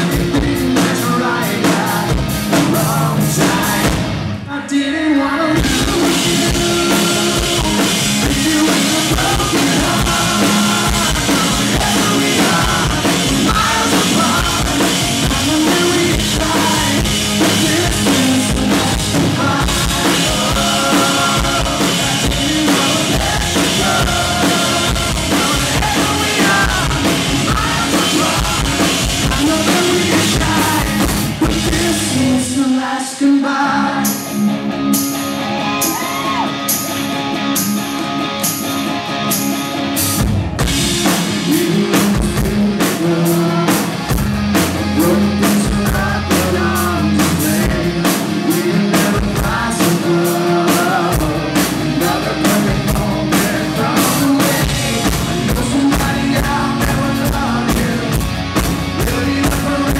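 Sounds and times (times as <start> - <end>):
live rock band playing: 0.0 - 32.9, 33.6 - 59.9
man singing: 0.0 - 34.3, 41.1 - 59.9.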